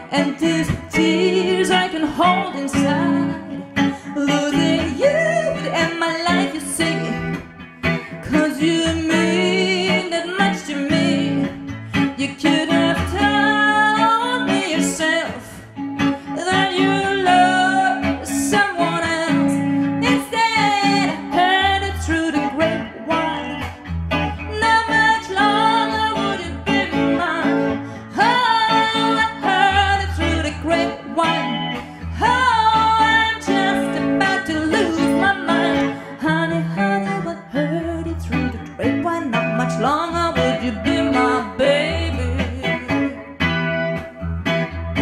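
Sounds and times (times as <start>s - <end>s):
electric guitar: 0.0s - 45.0s
woman singing into a microphone: 0.0s - 45.0s.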